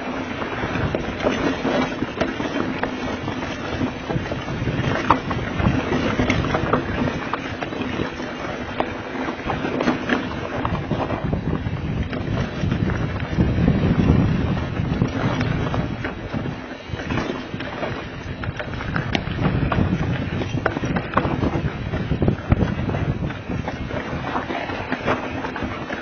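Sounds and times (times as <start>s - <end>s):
bike clattering and knocking: 0.0s - 26.0s
bike tyres crunching over rock: 0.0s - 26.0s
wind buffeting microphone: 0.0s - 26.0s.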